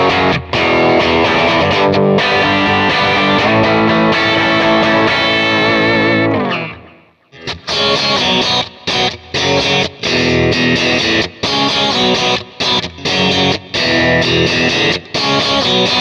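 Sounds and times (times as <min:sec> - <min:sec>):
overdriven electric guitar chords: 0:00.0 - 0:16.0.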